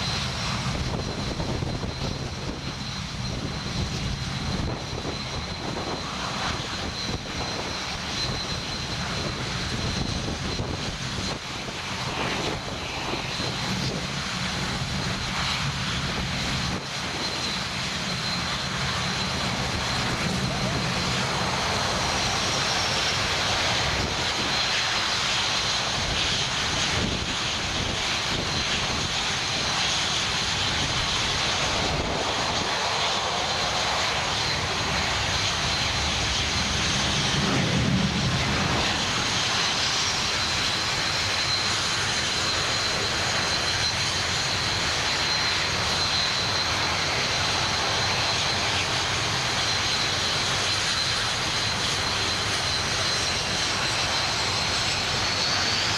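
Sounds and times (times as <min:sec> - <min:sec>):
jet engines in flight: 0:00.0 - 0:55.9.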